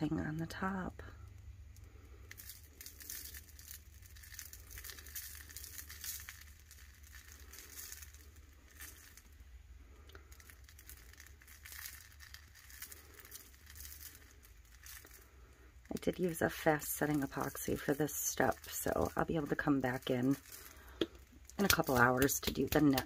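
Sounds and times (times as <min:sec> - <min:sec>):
glitter pattering and rustling: 0:00.0 - 0:23.0
low steady hum: 0:00.0 - 0:23.0.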